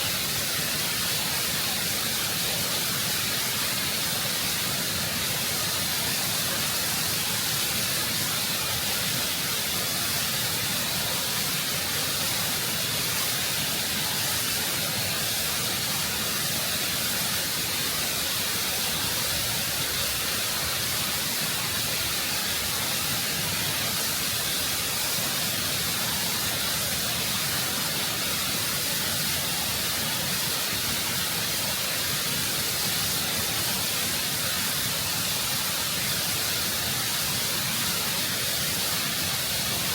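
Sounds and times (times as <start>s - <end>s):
waterfall roaring over rock: 0.0s - 39.9s.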